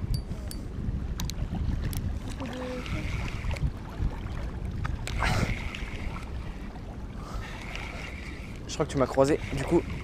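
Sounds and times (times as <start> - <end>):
wind buffeting microphone: 0.0 - 10.0
small waves lapping: 1.0 - 10.0.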